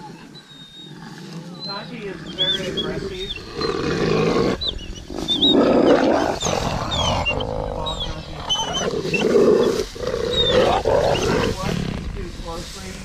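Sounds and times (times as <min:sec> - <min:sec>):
wolves growling: 0:00.0 - 0:12.6.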